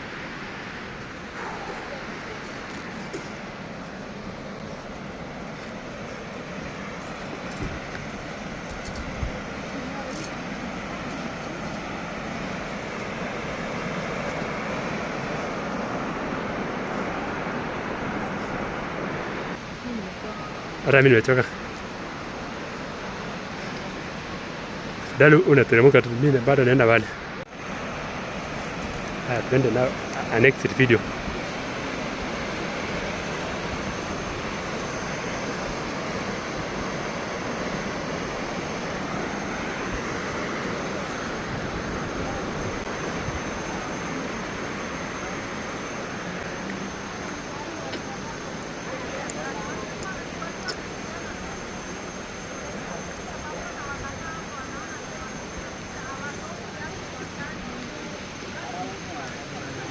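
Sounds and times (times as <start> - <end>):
waterfall roar: 0.0 - 59.9.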